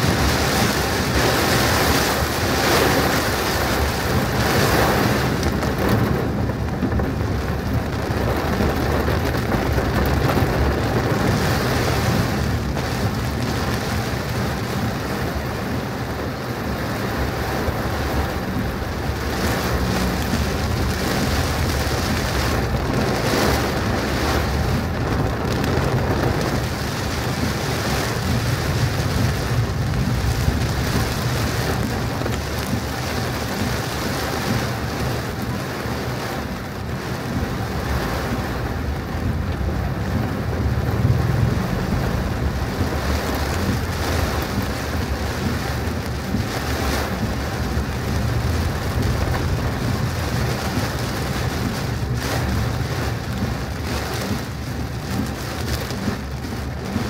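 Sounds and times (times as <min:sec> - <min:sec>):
deep low rumble: 0:00.0 - 0:57.0
heavy rain pouring: 0:00.0 - 0:57.0.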